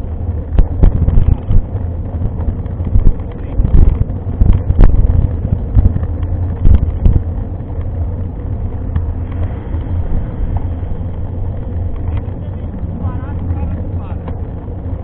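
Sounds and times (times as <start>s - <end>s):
bike shaking: 0.0s - 15.0s
wind buffeting microphone: 0.0s - 15.0s.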